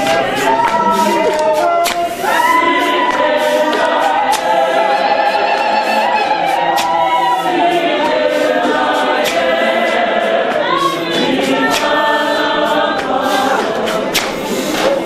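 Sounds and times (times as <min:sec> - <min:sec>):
congregation singing a cappella: 0:00.0 - 0:15.0
sharp rhythmic beats: 0:00.0 - 0:15.0.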